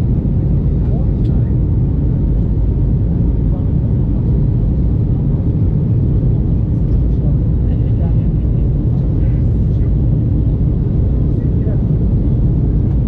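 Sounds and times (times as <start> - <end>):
airplane cabin engine noise: 0.0 - 13.0.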